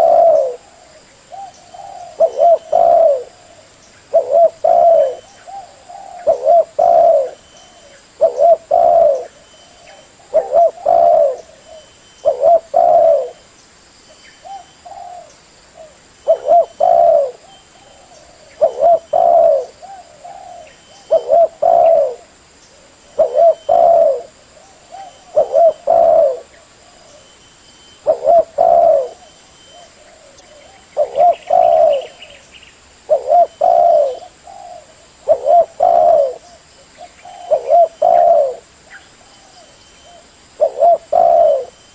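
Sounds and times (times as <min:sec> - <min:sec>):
dove cooing: 0:00.0 - 0:13.4, 0:14.4 - 0:27.4, 0:28.0 - 0:32.4, 0:33.0 - 0:41.9.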